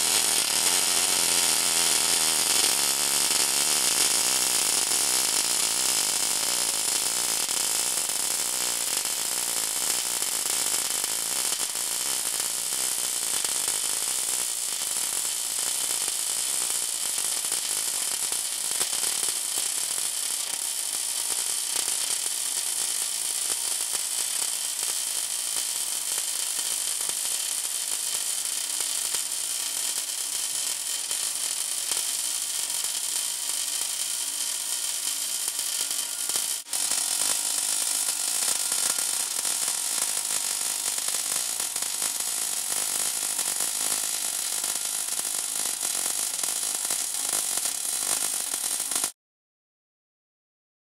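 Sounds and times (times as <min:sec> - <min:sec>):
welding arc hissing and crackling: 0:00.0 - 0:49.2.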